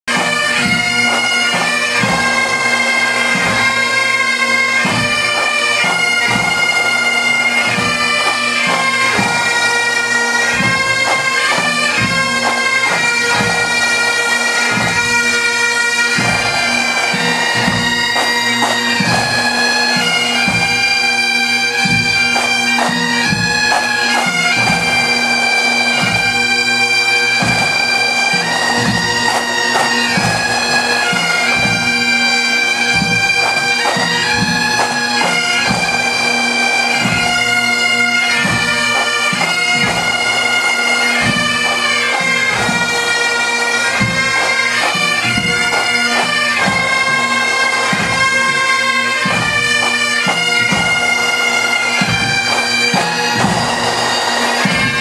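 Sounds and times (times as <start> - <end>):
bagpipes playing a tune: 0.0 - 55.0.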